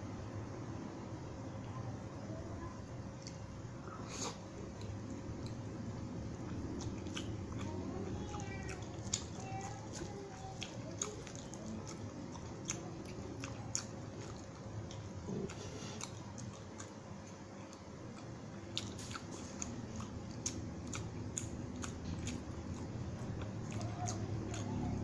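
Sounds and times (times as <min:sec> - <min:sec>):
person chewing with mouth clicks: 0:03.1 - 0:25.0.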